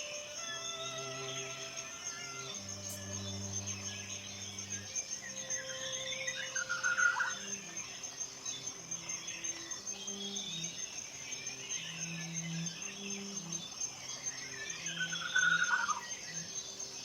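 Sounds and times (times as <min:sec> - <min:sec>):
birds chirping: 0:00.0 - 0:17.0
high-pitched insect trill: 0:00.0 - 0:17.0.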